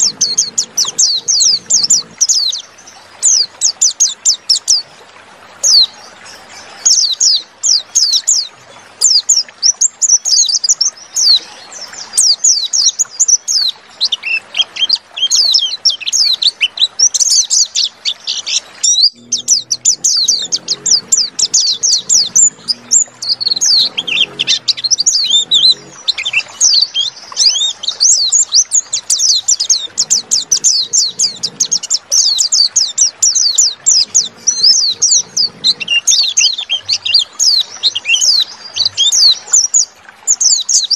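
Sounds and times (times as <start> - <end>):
bird twittering song: 0.0 - 5.0, 5.6 - 40.9.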